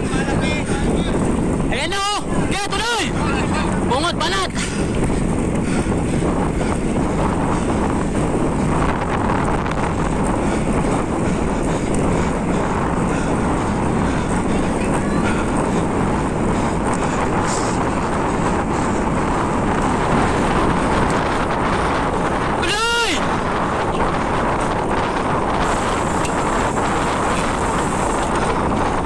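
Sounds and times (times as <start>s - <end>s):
road noise: 0.0s - 29.0s
wind on microphone: 0.0s - 29.0s.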